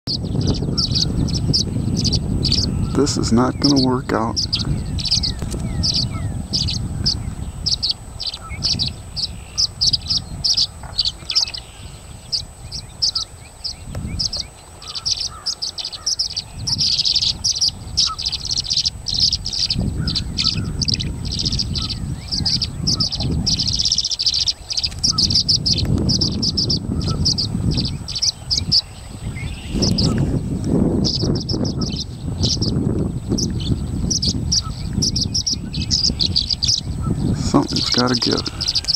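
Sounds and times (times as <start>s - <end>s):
swallows chirping and twittering: 0.1s - 38.9s.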